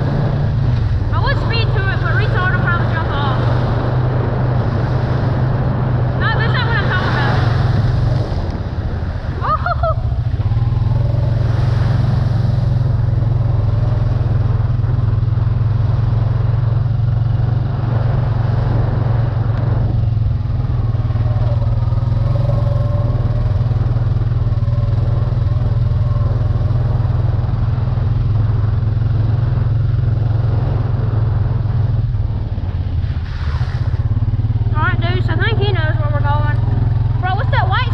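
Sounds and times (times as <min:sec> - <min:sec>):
off-road vehicle engine drone: 0:00.0 - 0:37.9.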